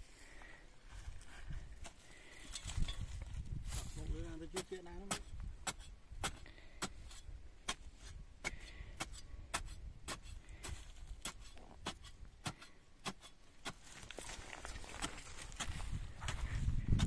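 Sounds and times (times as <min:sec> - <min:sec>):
wooden stick tamping soil: 0:01.3 - 0:17.0.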